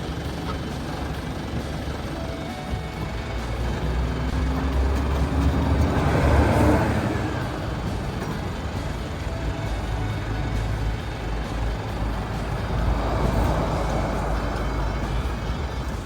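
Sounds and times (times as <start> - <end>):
road vehicle rumbling: 0.0 - 16.0.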